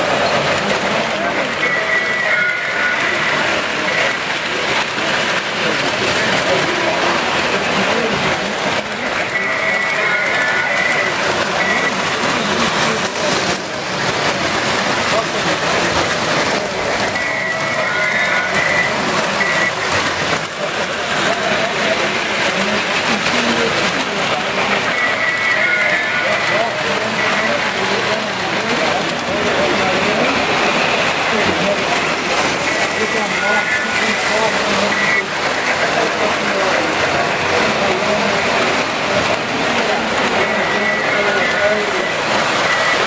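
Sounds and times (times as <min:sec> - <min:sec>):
people talking: 0:00.0 - 0:43.0
toy train running on rails: 0:00.0 - 0:43.0.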